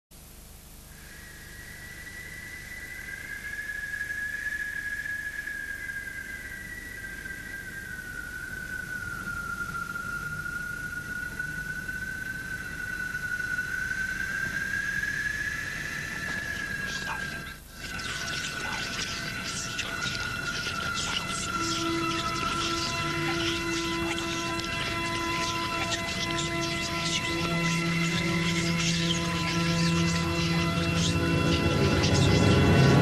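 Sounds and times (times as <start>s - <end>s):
high-pitched sustained tone: 1.0s - 33.0s
faint low hum: 5.8s - 33.0s.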